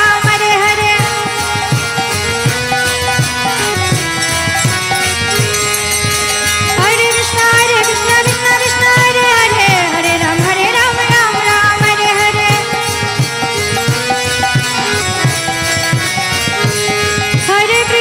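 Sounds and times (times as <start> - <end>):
steady drum beat: 1.0 - 17.8.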